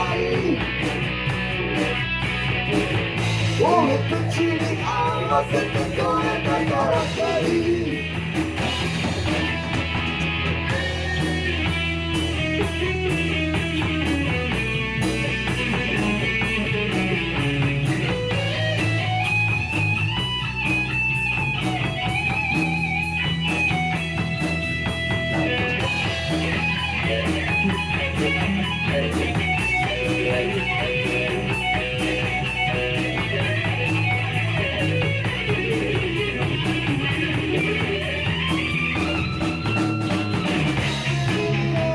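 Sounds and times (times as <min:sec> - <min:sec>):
bass: 0:00.0 - 0:41.9
lead guitar melody: 0:00.0 - 0:41.9
steady drum beat: 0:00.0 - 0:41.9.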